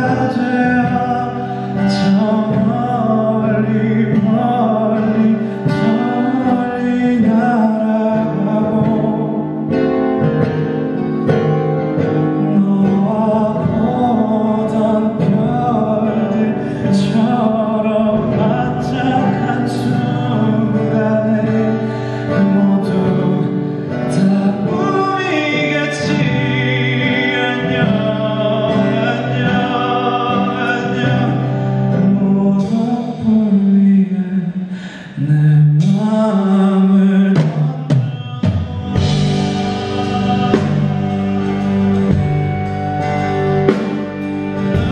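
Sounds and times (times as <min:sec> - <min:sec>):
instrumental accompaniment: 0:00.0 - 0:33.7, 0:37.3 - 0:44.9
man singing: 0:00.0 - 0:44.9.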